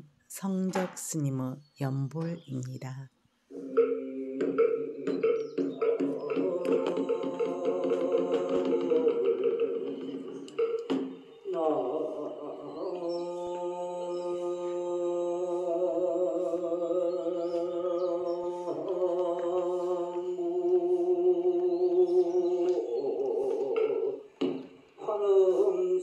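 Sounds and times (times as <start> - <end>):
monk chanting: 1.4 - 26.0.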